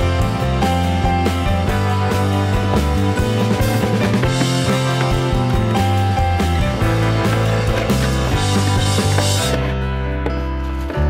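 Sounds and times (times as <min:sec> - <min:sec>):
background music with pulsing bass: 0:00.0 - 0:11.0.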